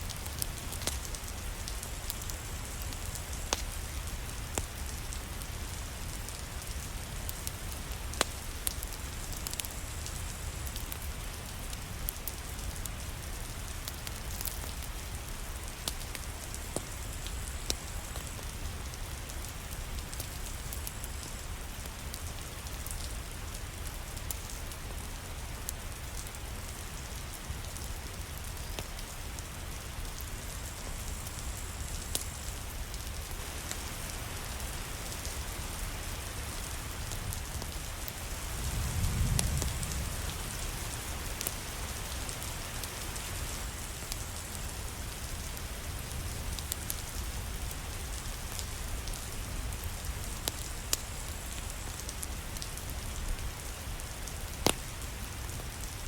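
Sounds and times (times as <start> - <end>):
fireplace fire crackling: 0.0 - 56.0
steady rain: 0.0 - 56.0.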